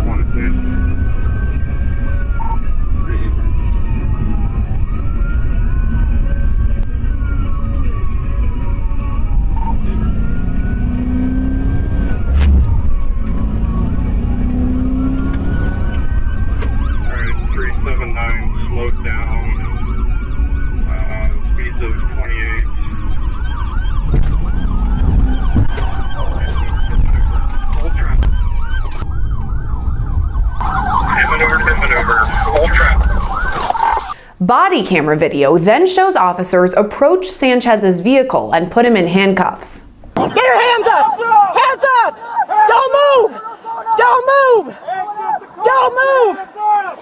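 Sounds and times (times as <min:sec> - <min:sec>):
police siren wailing: 0:00.0 - 0:38.4
car engine and road noise: 0:00.0 - 0:40.5.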